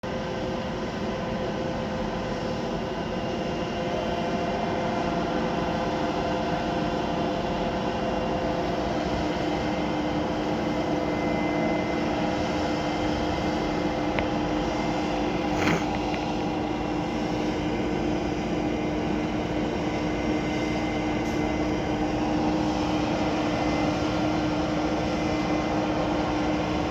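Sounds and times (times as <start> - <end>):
construction machinery engines droning: 0.0 - 26.9.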